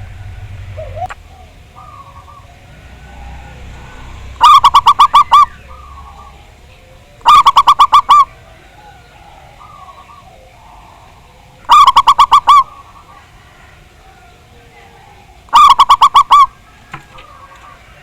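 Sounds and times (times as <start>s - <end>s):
dove cooing: 0.0s - 18.0s
faint coos from other doves: 0.0s - 18.0s.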